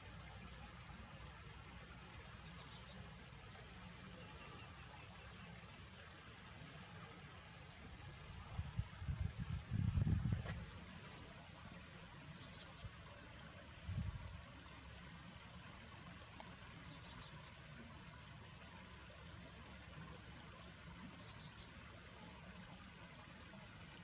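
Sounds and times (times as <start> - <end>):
faint outdoor ambience: 0.0 - 24.0.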